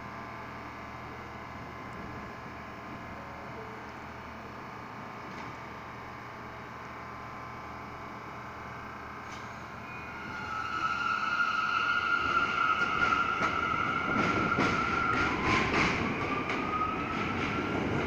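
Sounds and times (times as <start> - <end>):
subway train hum: 0.0 - 18.0
train propulsion whine: 0.0 - 18.0.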